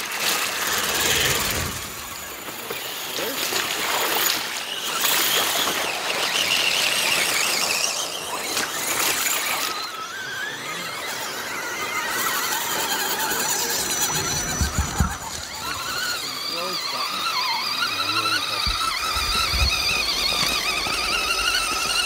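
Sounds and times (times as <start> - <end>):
toy truck motor whining: 0.0 - 22.0.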